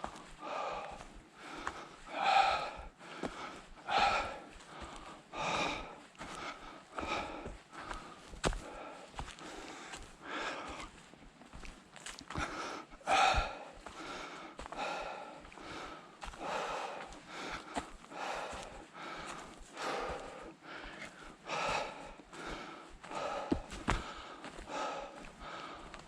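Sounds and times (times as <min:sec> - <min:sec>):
person breathing hard: 0:00.0 - 0:11.1, 0:12.2 - 0:26.0
footsteps on a trail: 0:00.0 - 0:26.0.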